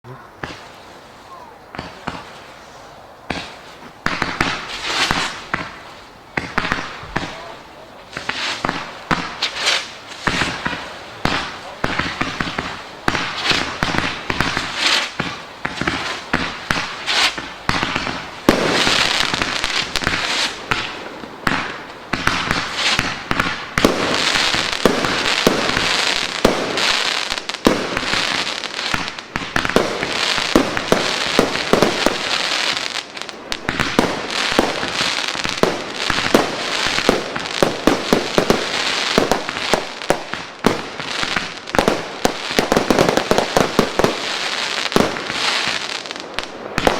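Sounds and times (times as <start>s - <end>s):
firework crackling: 0.1s - 46.9s.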